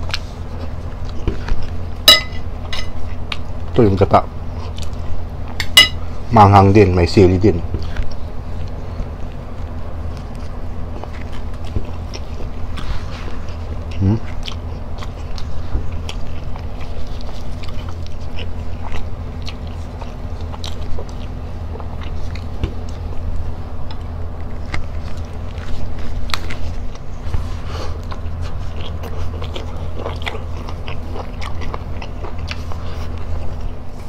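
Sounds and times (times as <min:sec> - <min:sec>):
person chewing food: 0:00.0 - 0:03.8, 0:04.4 - 0:06.1, 0:07.7 - 0:34.0
steady low hum: 0:00.0 - 0:34.0.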